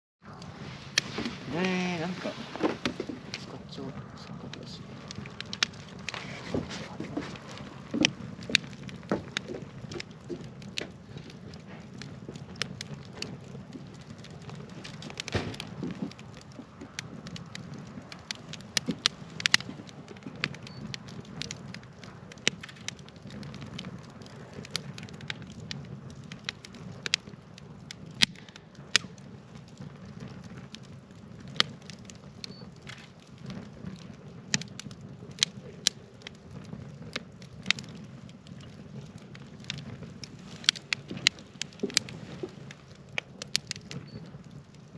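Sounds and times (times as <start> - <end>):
fire crackles and pops: 0.2 - 44.9
wood fire rumbling: 0.2 - 44.9.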